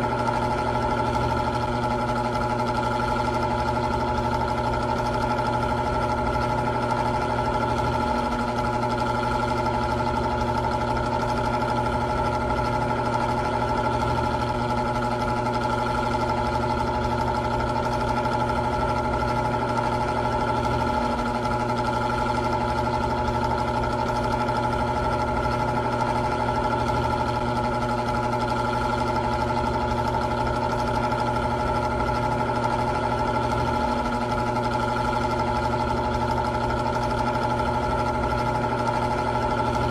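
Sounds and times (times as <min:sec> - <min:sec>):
electric fan motor hum: 0:00.0 - 0:39.9
fan blades rushing air: 0:00.0 - 0:39.9.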